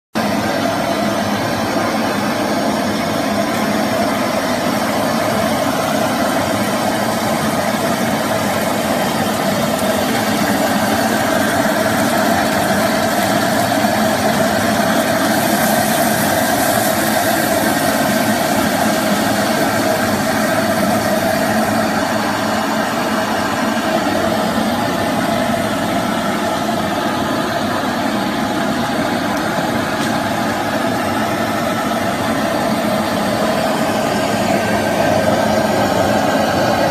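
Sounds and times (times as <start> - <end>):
gas burners and extraction rushing: 0.2 - 36.9
pan flaring up hissing: 0.2 - 36.9.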